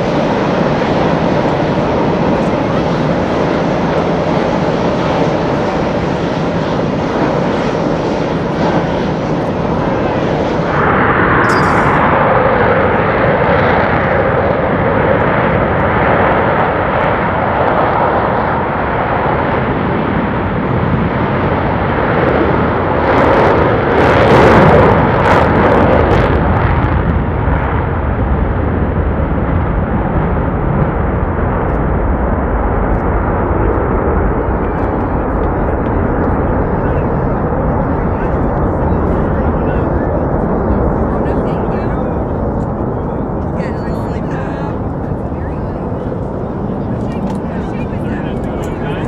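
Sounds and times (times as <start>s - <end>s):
jet passing close with crackling: 0.0s - 49.0s
jet roar: 0.0s - 49.0s.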